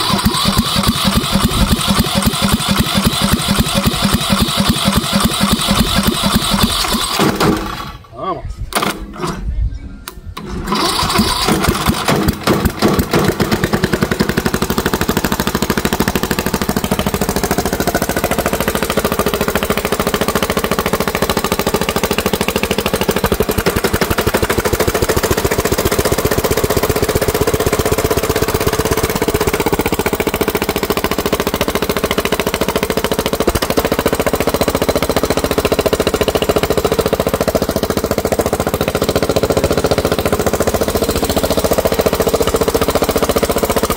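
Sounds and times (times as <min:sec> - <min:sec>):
small engine starting and running: 0:00.0 - 0:08.1, 0:08.7 - 0:09.5, 0:10.3 - 0:43.9.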